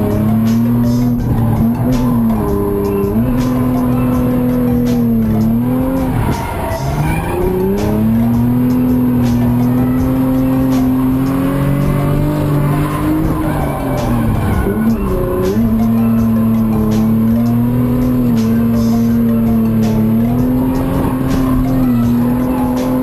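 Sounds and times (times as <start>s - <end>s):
car engine revving: 0.0s - 23.0s
music: 0.0s - 23.0s
tyres squealing: 0.0s - 23.0s.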